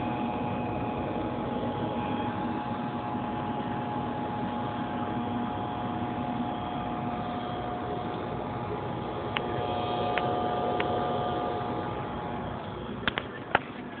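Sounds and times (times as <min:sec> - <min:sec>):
electric motor hum: 0:00.0 - 0:14.0.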